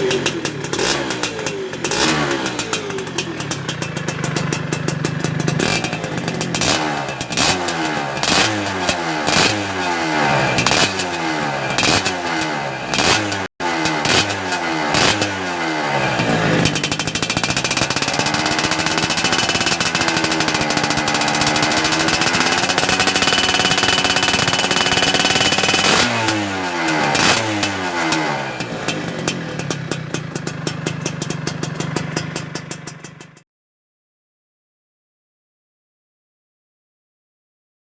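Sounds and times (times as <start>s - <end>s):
two-stroke engine revving: 0.0s - 33.4s.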